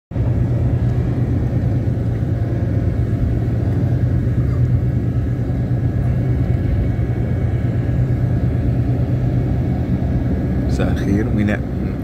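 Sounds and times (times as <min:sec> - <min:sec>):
car engine and road noise: 0:00.1 - 0:12.0.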